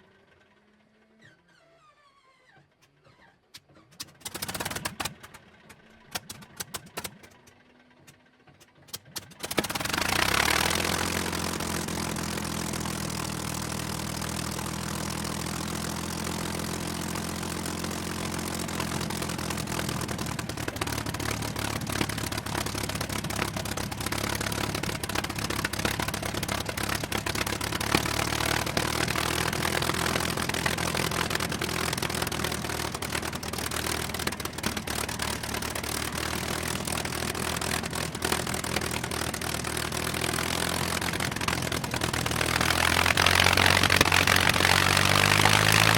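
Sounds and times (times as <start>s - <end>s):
propeller aircraft engine running: 4.0s - 45.9s.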